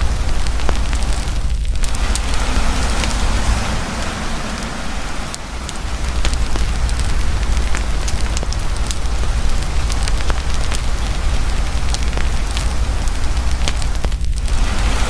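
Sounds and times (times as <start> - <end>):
campfire crackling and popping: 0.0 - 15.0
heavy rain falling: 0.0 - 15.0
low steady rumble: 0.0 - 15.0.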